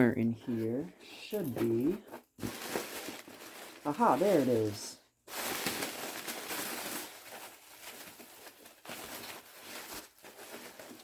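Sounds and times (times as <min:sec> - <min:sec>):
packing material rustling: 0:01.4 - 0:11.0.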